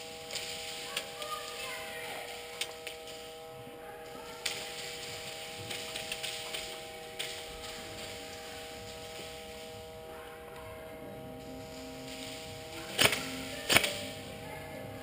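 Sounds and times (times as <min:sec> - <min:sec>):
sharp electrical clicks and snaps: 0:00.0 - 0:10.8, 0:11.4 - 0:15.0
steady electrical hum: 0:00.0 - 0:15.0.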